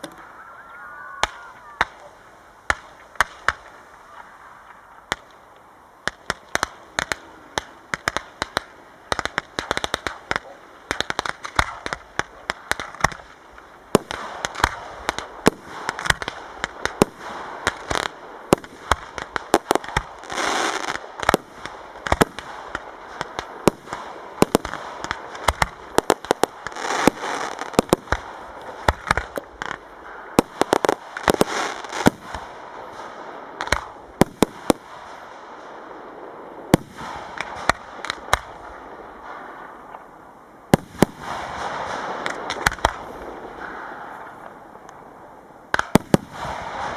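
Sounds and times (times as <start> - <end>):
fireworks crackling: 0.0 - 46.9.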